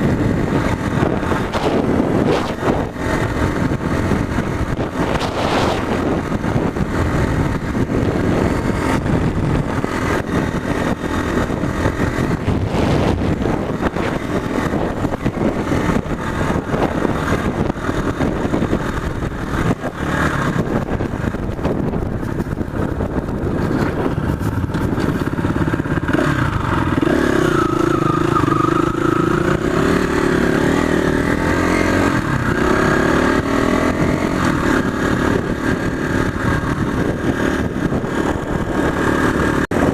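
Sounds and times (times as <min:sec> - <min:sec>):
motorcycle engine rough revving: 0:00.0 - 0:39.9.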